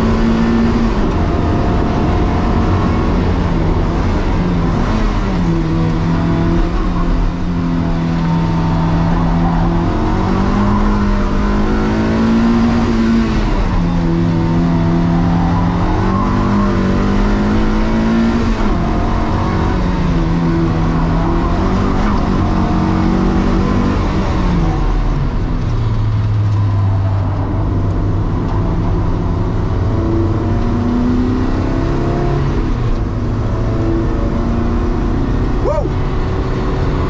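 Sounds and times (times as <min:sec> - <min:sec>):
car engine revving inside cabin: 0:00.0 - 0:37.0.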